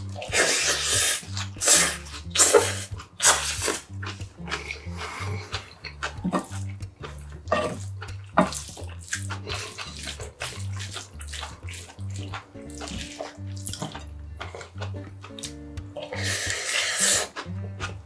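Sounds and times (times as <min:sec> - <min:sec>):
background music with bass line: 0:00.0 - 0:18.0
wet chewing: 0:00.0 - 0:18.0.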